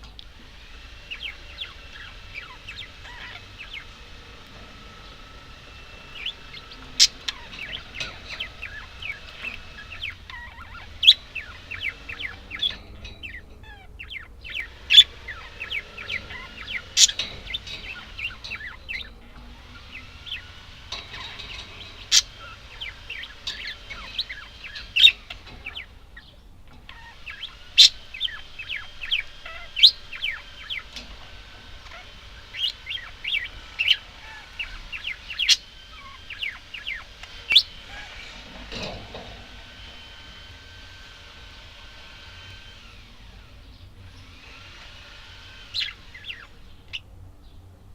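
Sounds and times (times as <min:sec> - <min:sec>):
budgerigars chattering: 0:00.0 - 0:47.1.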